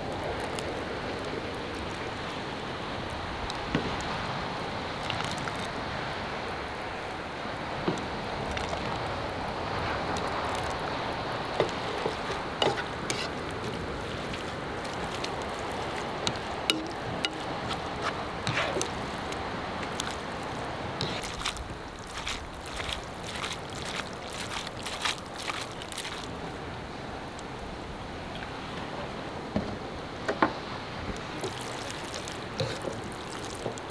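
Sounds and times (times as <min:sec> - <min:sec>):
sea surf: 0:00.0 - 0:33.9
wind: 0:00.0 - 0:33.9.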